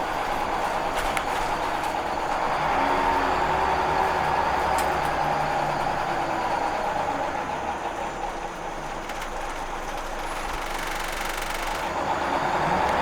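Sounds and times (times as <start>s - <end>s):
bus engine hum and whine: 0.0s - 13.0s.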